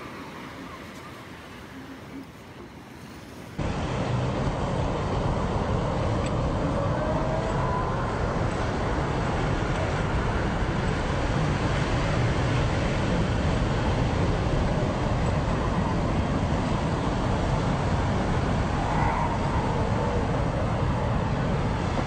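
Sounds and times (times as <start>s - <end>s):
ocean surf: 0.0s - 22.0s
wind across microphone: 3.0s - 22.0s.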